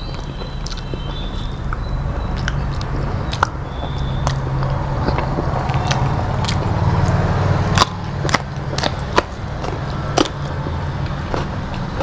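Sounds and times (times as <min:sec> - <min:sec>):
biting into raw chili: 0:00.0 - 0:12.0
person chewing food: 0:00.0 - 0:12.0
steady low hum: 0:00.0 - 0:12.0
wet mouth clicks: 0:00.0 - 0:12.0.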